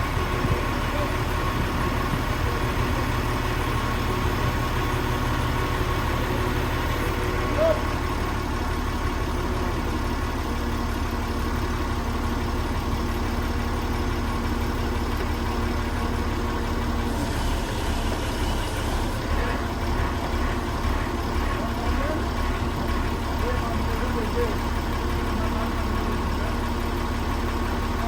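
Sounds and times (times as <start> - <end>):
deep machinery rumble: 0.0 - 28.0.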